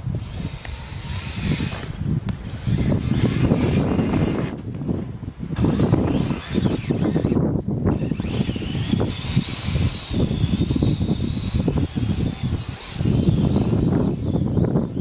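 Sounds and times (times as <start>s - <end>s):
high electric motor whine: 0.0s - 4.7s, 5.6s - 15.0s.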